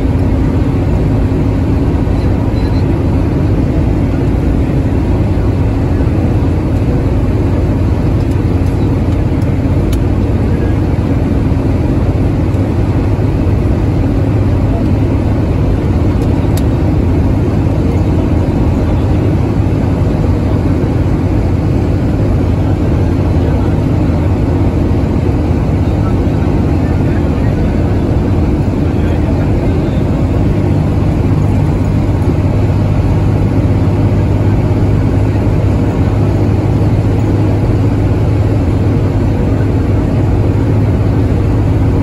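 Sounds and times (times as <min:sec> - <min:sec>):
bus engine drone: 0:00.0 - 0:42.0
road and wind noise: 0:00.0 - 0:42.0.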